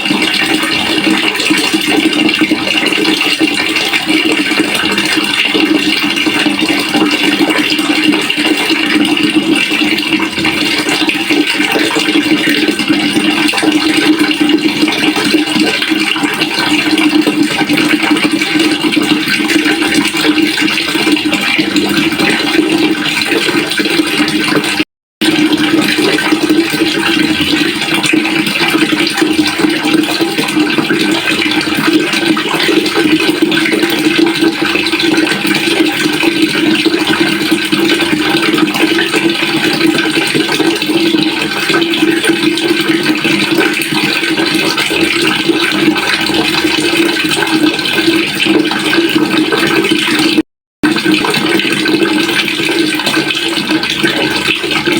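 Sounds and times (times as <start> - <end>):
water flowing into a pail: 0.0 - 54.9.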